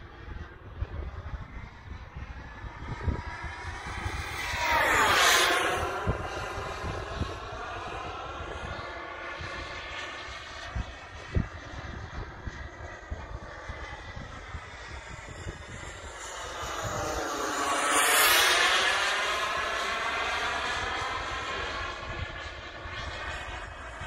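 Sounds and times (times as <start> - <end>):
model jet turbine whining: 0.0 - 24.0.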